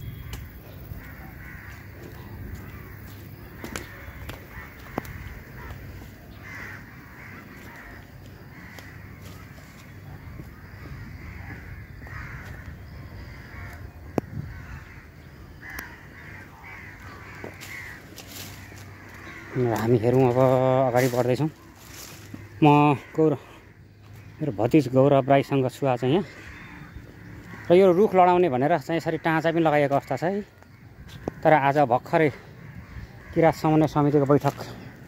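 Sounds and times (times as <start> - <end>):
crows cawing: 0.0 - 35.0.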